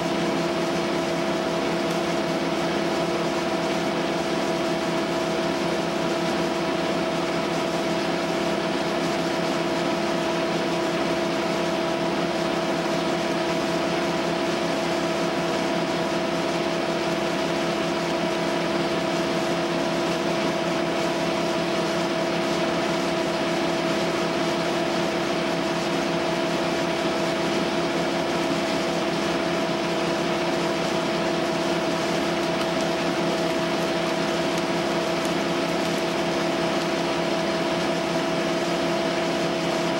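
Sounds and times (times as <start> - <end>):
wood chipper motor drone: 0.0 - 39.9.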